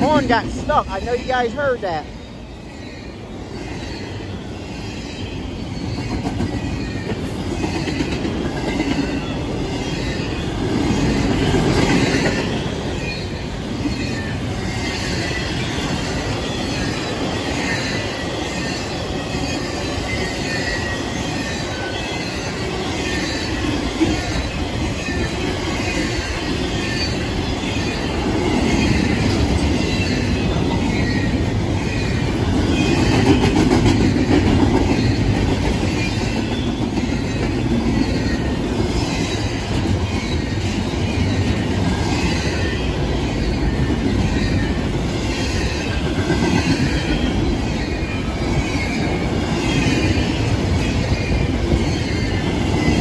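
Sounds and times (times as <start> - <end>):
freight train rumbling and rattling: 0.0 - 53.0.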